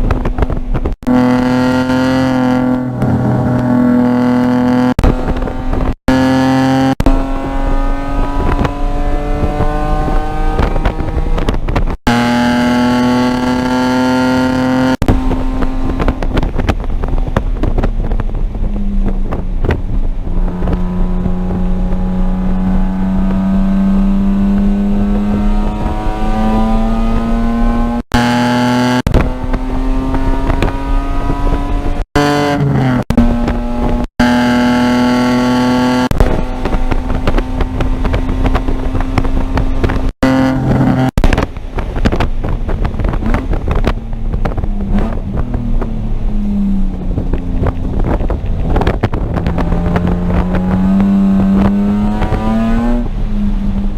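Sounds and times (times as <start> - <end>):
race car engine revving: 1.0 - 17.9, 19.2 - 41.4, 44.5 - 53.9.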